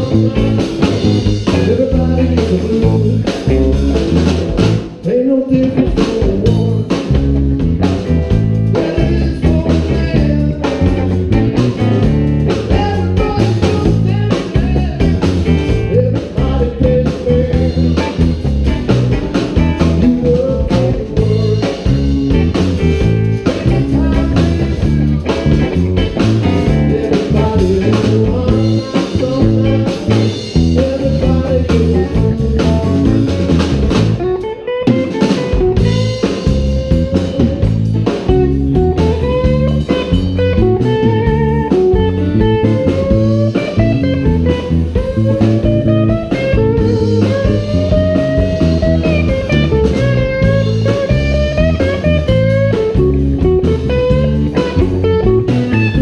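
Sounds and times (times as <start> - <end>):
drum kit: 0.0 - 56.0
electric bass: 0.0 - 56.0
electric guitar lead with bent notes: 0.0 - 56.0.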